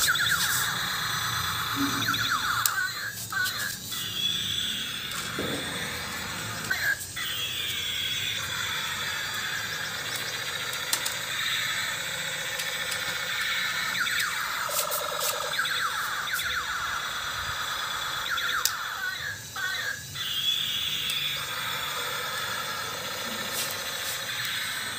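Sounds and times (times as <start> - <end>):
high-pitched squealing whine: 0.0 - 24.9.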